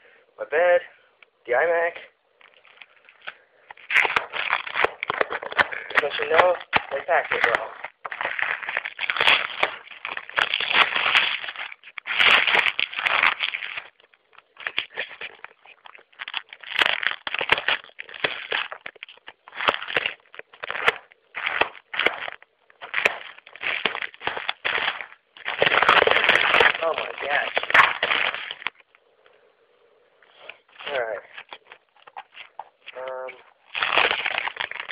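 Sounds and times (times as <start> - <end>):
packing peanuts rustling and crunching: 2.4 - 29.0, 30.3 - 34.9.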